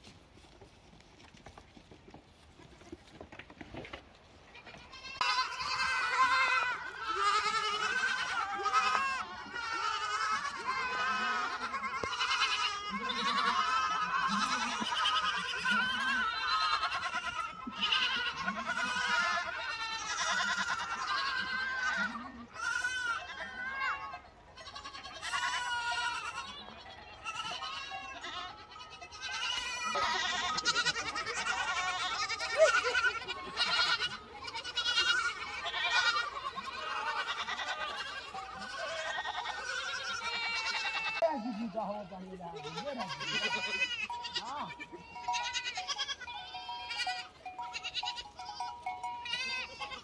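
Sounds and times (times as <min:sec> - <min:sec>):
goats and sheep bleating: 0:00.0 - 0:50.0.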